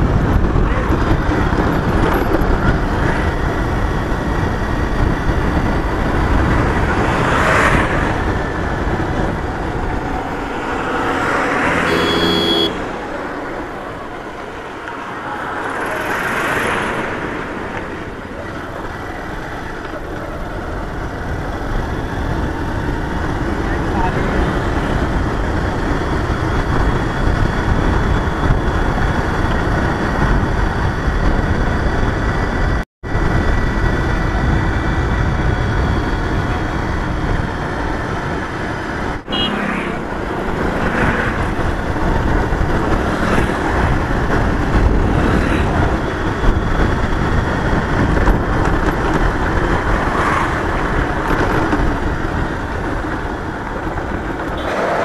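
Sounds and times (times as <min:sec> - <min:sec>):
wind rush on microphone: 0:00.0 - 0:11.9, 0:12.7 - 0:55.0.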